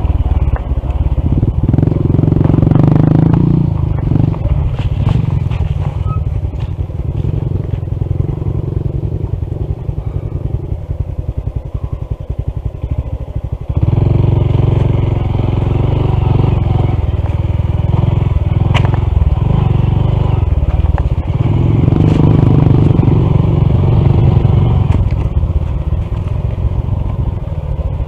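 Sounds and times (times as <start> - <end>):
motorcycle engine running at low revs: 0.0 - 28.0.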